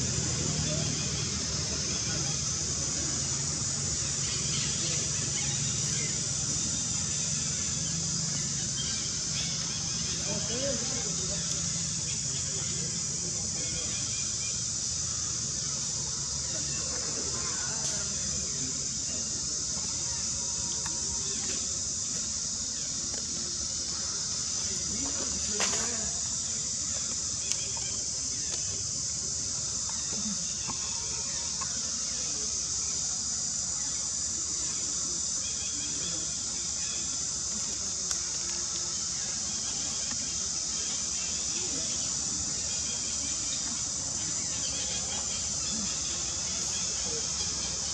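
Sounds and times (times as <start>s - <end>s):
insect chorus droning: 0.0s - 47.9s.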